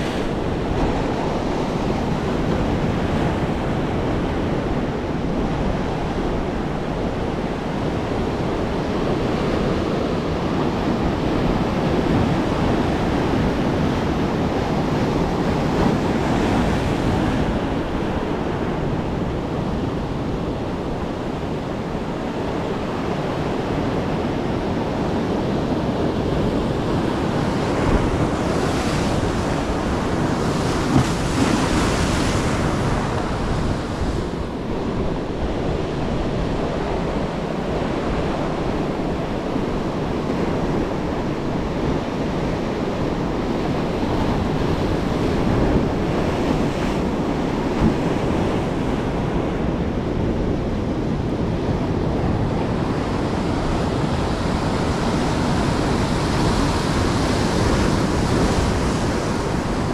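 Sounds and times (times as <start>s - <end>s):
ocean surf on sandy beach: 0.0s - 59.9s
wind on microphone: 0.0s - 59.9s.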